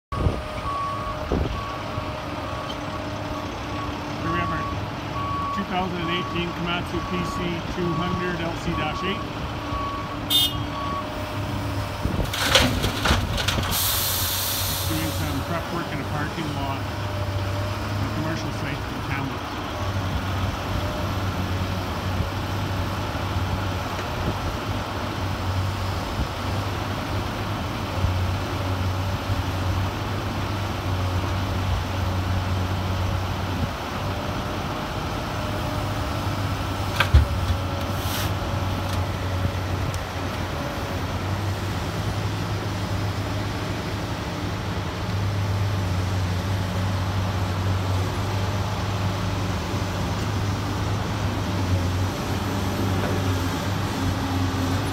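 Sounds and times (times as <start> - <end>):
excavator diesel engine running: 0.1 - 54.9.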